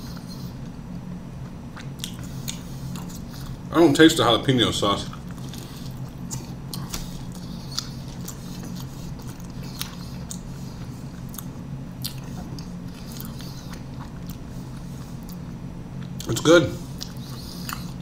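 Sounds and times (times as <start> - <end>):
person chewing food: 0.0 - 3.7, 5.0 - 18.0
steady low hum: 0.0 - 18.0.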